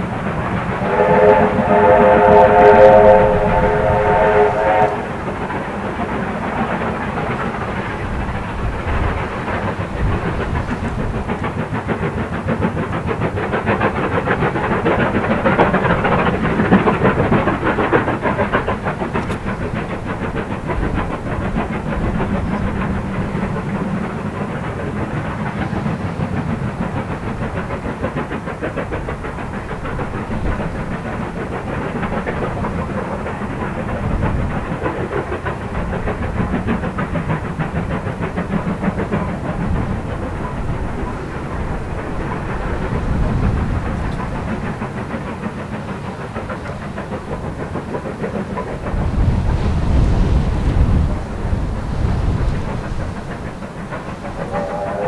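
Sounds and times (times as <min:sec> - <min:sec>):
steam locomotive exhaust beats: 0:00.0 - 0:55.0
train rumble: 0:00.0 - 0:55.0.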